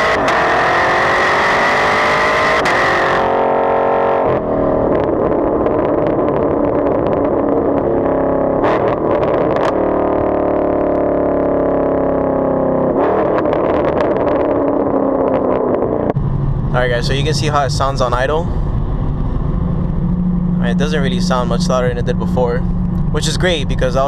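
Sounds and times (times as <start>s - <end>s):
car engine running at low revs: 0.0s - 24.0s.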